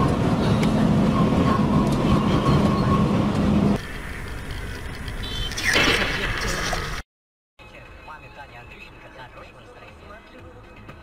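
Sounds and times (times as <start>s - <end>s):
vehicle road and engine rumble: 0.0s - 7.0s, 7.6s - 11.0s.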